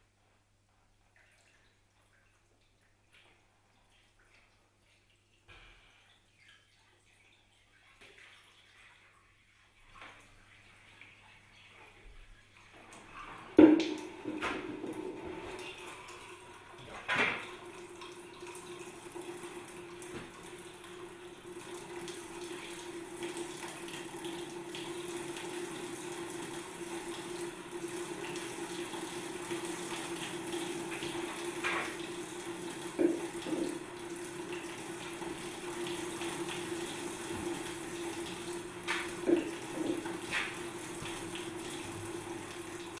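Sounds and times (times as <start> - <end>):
water running: 0.7 - 43.0.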